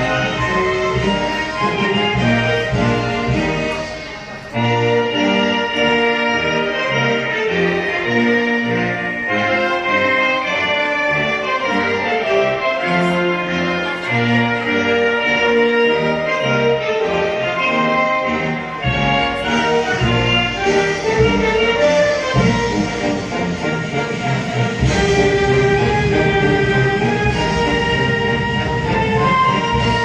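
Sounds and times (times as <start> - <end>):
orchestral music over pa system: 0.0 - 30.0.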